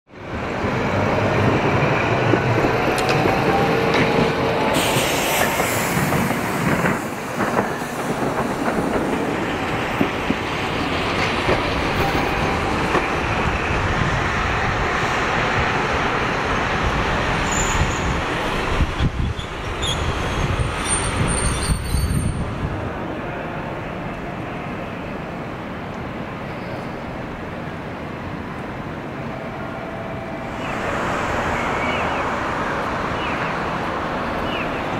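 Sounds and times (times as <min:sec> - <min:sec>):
streetcar wheels rumbling on rail: 0:00.1 - 0:34.9.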